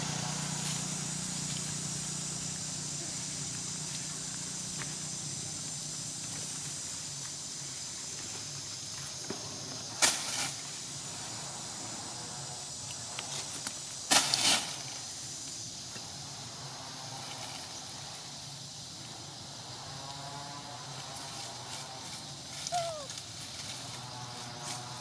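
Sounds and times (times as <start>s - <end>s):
high insect hiss: 0.0s - 25.0s.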